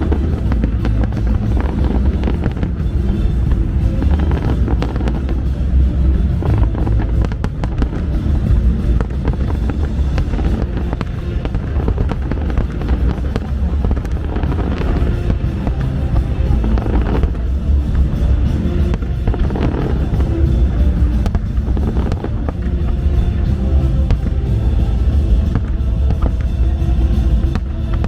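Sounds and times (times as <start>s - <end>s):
fireworks bursting and crackling: 0.0s - 28.0s
heavy low rumble: 0.0s - 28.0s
loud music: 0.0s - 28.0s.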